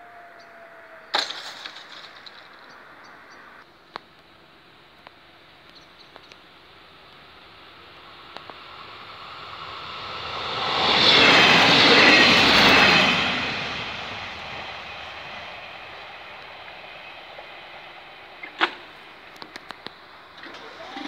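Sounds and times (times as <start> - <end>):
train passing: 1.8 - 21.0.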